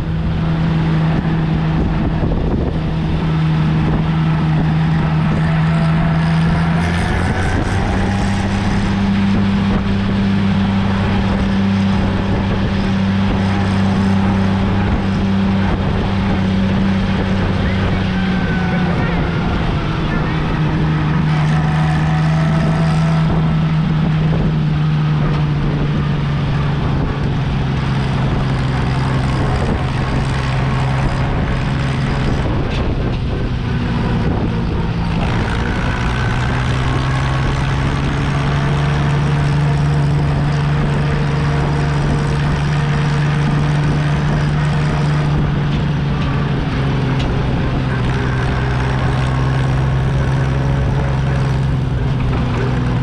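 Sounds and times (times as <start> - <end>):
tractor engine droning: 0.0 - 53.0.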